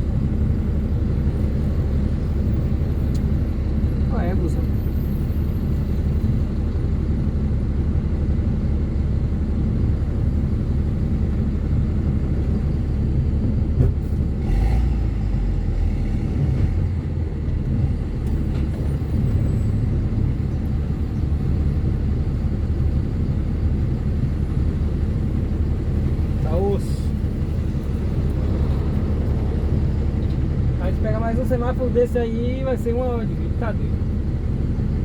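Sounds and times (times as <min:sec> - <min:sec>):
truck diesel engine rumbling: 0:00.0 - 0:35.0.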